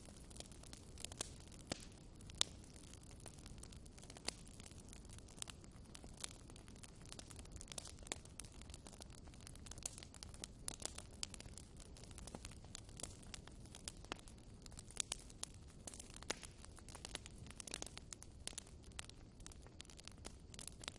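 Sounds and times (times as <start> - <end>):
low rumble of burning: 0.0 - 20.9
wood fire crackling: 0.0 - 20.9.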